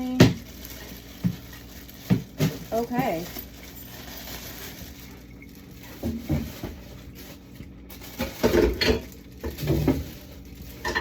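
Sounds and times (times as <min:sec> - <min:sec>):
jars and containers clattering: 0:00.0 - 0:11.0.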